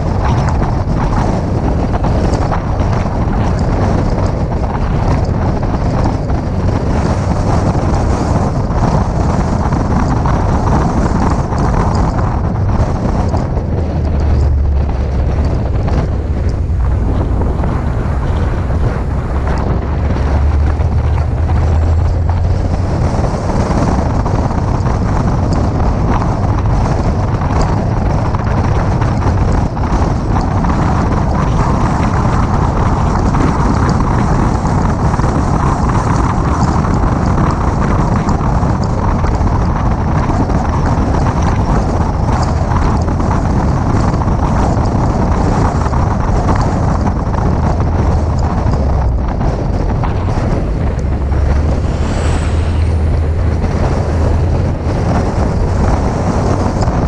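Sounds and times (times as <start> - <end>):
car engine and road rumble: 0.0 - 57.0
wind rushing over microphone: 0.0 - 57.0.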